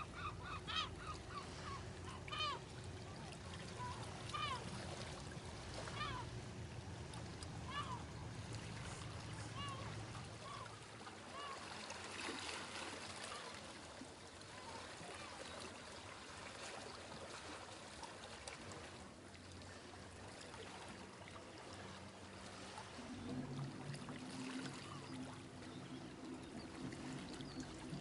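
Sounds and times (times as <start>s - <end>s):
boat engine hum: 0.0s - 28.0s
water lapping and trickling: 0.0s - 28.0s.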